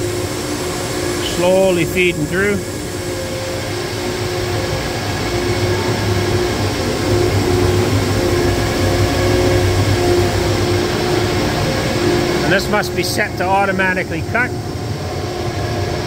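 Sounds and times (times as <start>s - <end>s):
faint machine tone: 0.0s - 16.0s
machinery drone with low hum: 0.0s - 16.0s.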